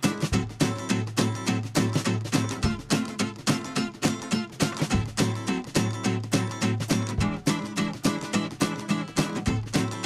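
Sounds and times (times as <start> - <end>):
strummed guitar over beat: 0.0 - 10.0.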